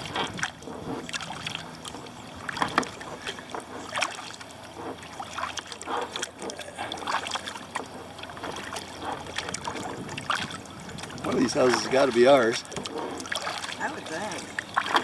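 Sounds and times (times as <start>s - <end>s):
kayak paddle splashing: 0.0s - 15.0s
water trickling off paddle: 0.0s - 15.0s.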